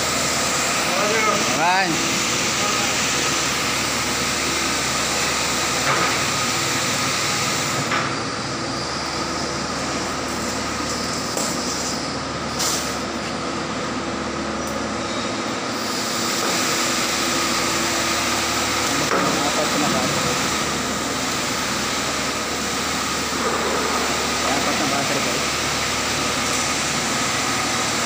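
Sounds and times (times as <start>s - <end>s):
diesel generator roaring: 0.0s - 28.0s.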